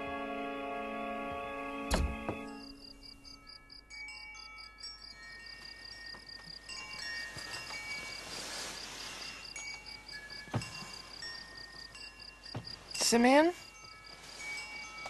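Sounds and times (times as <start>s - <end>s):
soft music: 0.0s - 15.0s
crickets chirping: 2.1s - 15.0s
high tinkling notes: 2.5s - 15.0s.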